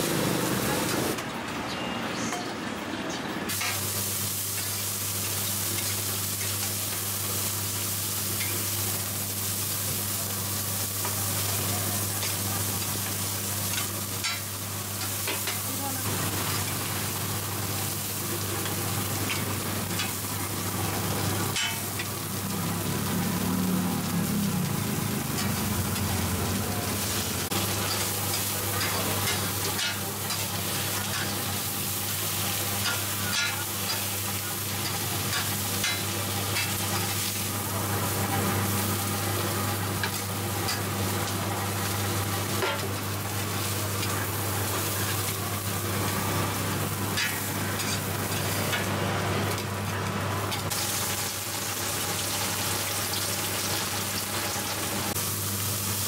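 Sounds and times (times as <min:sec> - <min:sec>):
batter sizzling in oil: 0:03.5 - 0:56.0.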